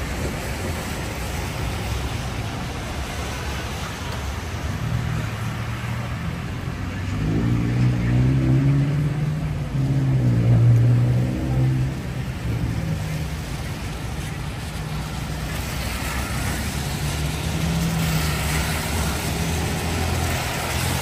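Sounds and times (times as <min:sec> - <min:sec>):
rain hiss: 0:00.0 - 0:06.8, 0:09.2 - 0:21.0
city street noise: 0:00.0 - 0:21.0
vehicle engine hum: 0:00.0 - 0:21.0.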